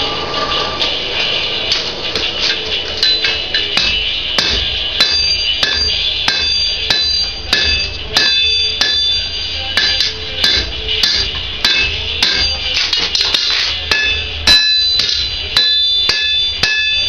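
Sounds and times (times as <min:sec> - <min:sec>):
low rumble: 0:00.0 - 0:16.6
hammer striking steel on anvil: 0:00.0 - 0:17.0.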